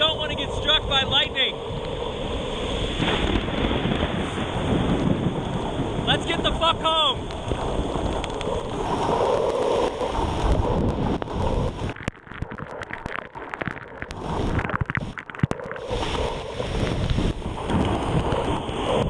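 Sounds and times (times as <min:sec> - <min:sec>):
torrential rain: 0:00.0 - 0:19.0
wind buffeting microphone: 0:00.0 - 0:19.0.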